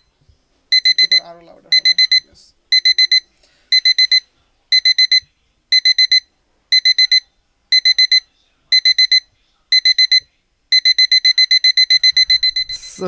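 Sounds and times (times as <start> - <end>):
alarm clock beeping: 0.7 - 8.2, 8.8 - 13.0.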